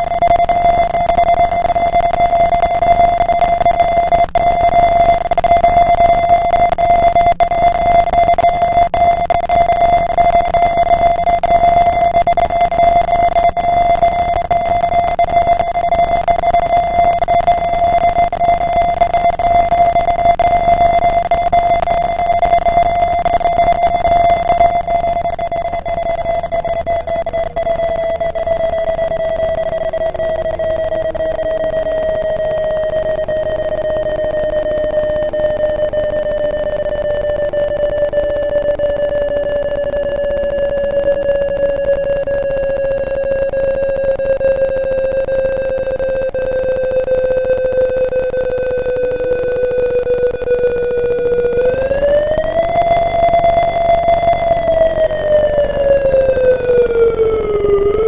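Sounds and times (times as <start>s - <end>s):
electromechanical siren wailing: 0.0s - 58.0s.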